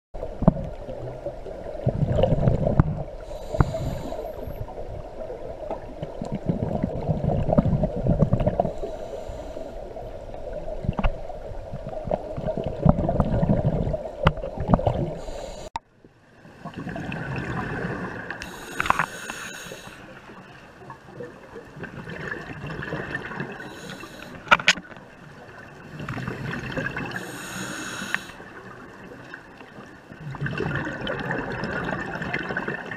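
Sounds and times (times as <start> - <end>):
regulator bubbles gurgling: 0.2 - 9.0, 9.8 - 15.3, 16.5 - 24.5, 25.1 - 32.9.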